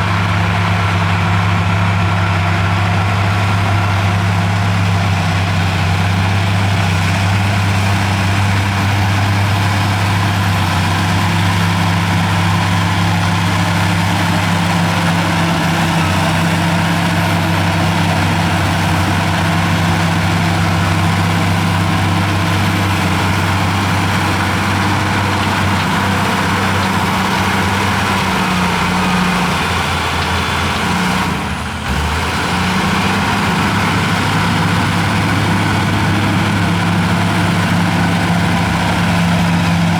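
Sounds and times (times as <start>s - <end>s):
diesel engine running under work: 0.0s - 39.9s.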